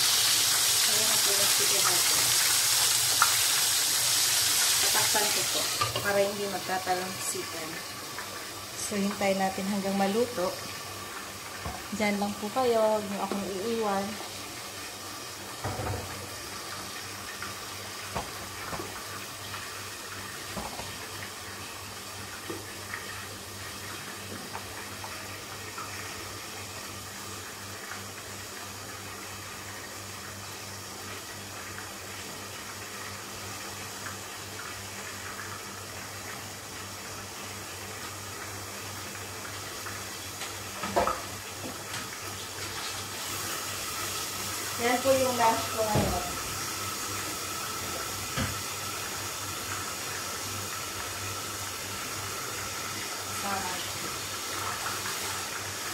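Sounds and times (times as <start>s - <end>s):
chicken sizzling in hot oil: 0.0s - 55.9s.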